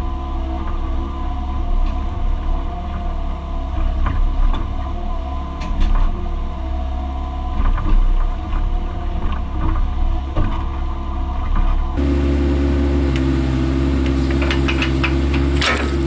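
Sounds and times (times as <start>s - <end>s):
excavator engine and hydraulics drone: 0.0s - 16.0s.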